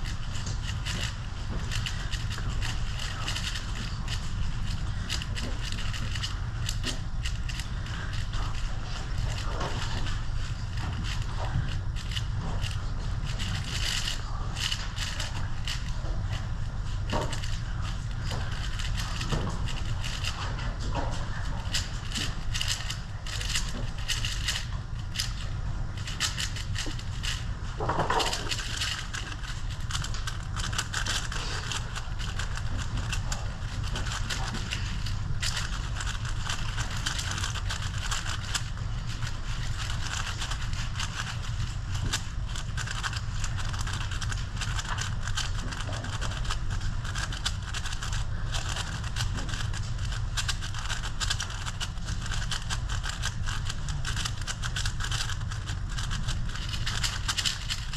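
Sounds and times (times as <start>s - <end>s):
puzzle cube plastic clicks: 0.0s - 57.9s.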